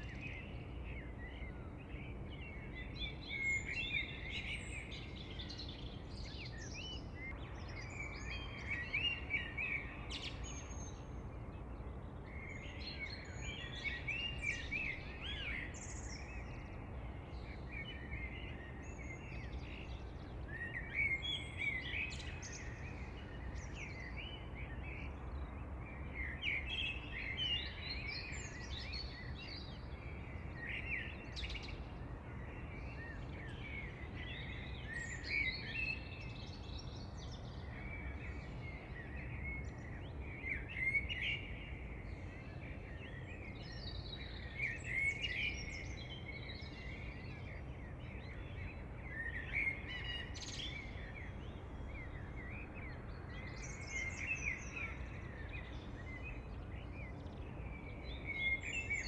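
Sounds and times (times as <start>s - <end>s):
wild birds chirping and singing: 0.0s - 59.0s.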